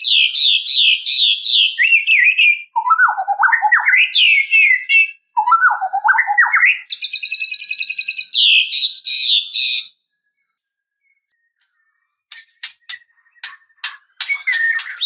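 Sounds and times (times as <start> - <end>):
bird singing warbled whistles: 0.0 - 10.1, 12.3 - 15.0.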